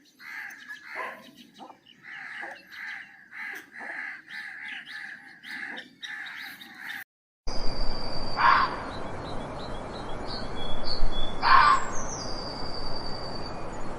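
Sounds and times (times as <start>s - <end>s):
bird harsh calls: 0.0s - 7.0s, 8.3s - 13.6s.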